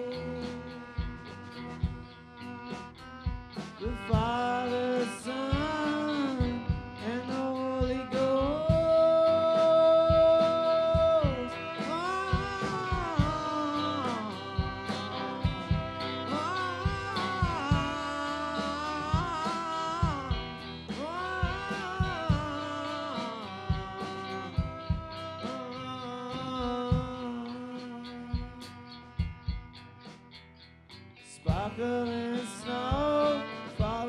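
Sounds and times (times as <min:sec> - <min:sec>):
instrumental melody with bending notes: 0:00.0 - 0:34.0
steady drum beat: 0:00.0 - 0:34.0.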